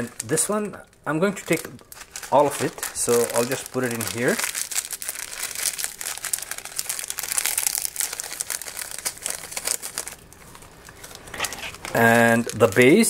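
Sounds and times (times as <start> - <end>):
plastic sachet crinkling: 0.0 - 13.0.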